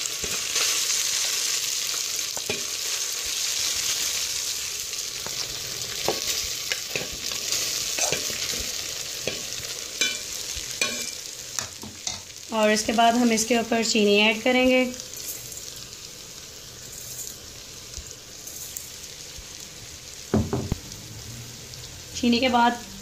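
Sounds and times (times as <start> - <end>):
oil sizzling in a pot: 0.0 - 23.0.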